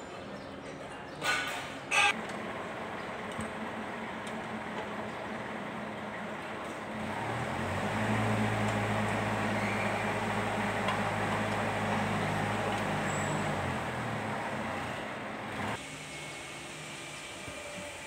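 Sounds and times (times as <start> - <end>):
tractor diesel engine running: 2.0 - 17.2.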